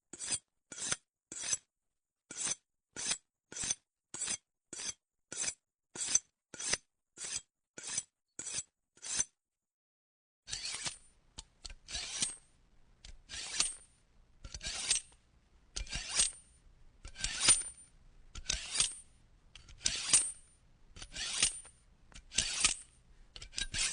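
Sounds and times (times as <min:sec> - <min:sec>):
knife blade sharpening strokes: 0:00.1 - 0:01.7, 0:02.3 - 0:09.4, 0:10.5 - 0:11.0, 0:11.6 - 0:12.4, 0:13.0 - 0:15.2, 0:15.8 - 0:19.0, 0:19.6 - 0:23.9.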